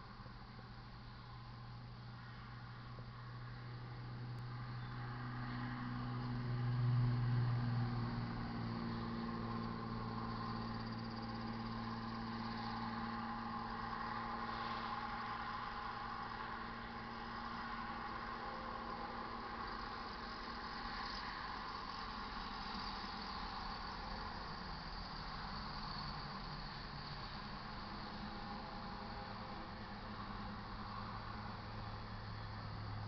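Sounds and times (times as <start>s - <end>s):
engine hum: 0.0s - 33.0s.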